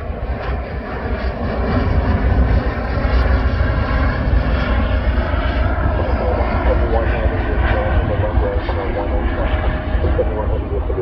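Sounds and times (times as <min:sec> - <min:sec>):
jet engines rushing: 0:00.0 - 0:11.0
wind buffeting microphone: 0:00.0 - 0:11.0.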